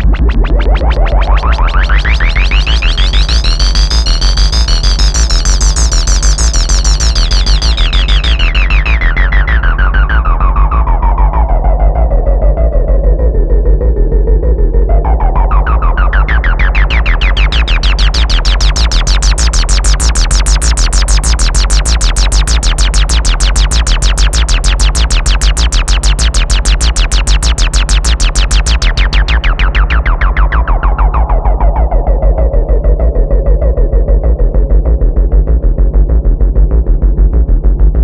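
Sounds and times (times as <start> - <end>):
synthesizer repeating pulses: 0.0 - 12.9, 14.9 - 35.0
deep synth bass tone: 0.0 - 38.0.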